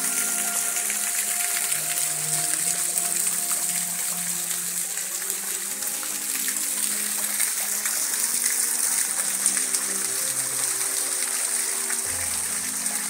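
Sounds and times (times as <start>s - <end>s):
music with slow held notes: 0.0s - 13.0s
water rushing: 0.0s - 13.0s.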